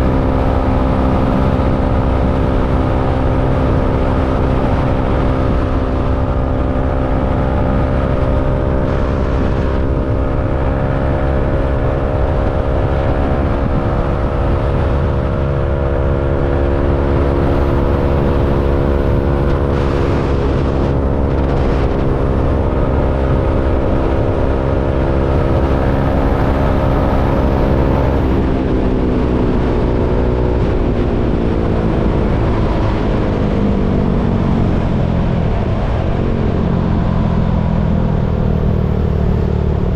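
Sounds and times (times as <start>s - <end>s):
low rumble: 0.0s - 39.9s
motorcycle engine running: 0.0s - 39.9s.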